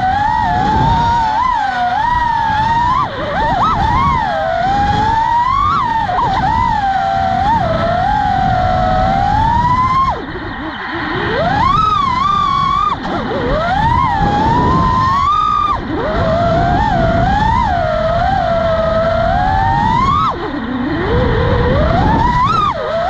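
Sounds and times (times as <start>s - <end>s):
drone motors whining: 0.0s - 23.0s
wind noise rumble: 0.0s - 23.0s.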